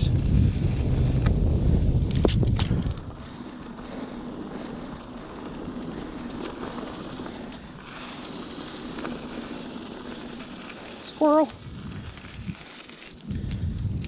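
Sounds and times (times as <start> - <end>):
mountain bike tyre and drivetrain noise: 0.0 - 14.0
wind: 0.0 - 14.0.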